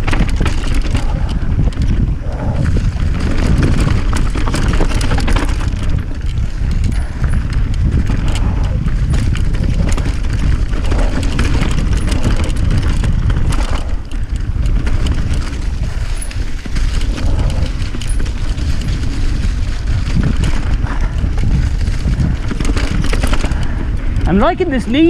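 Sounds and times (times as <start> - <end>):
bicycle rattling over rough ground: 0.0 - 25.0
wind rushing over microphone: 0.0 - 25.0.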